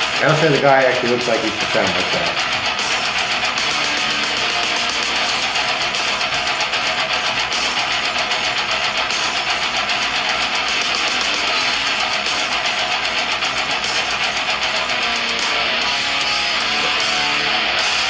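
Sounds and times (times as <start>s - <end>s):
distorted electric guitars: 0.0s - 18.0s
fast drumming: 0.0s - 18.0s.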